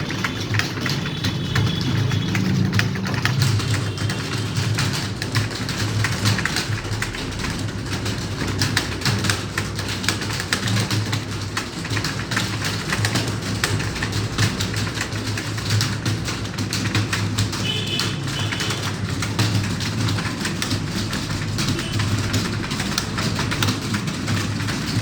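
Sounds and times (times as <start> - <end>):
many keyboards typing: 0.0 - 25.0.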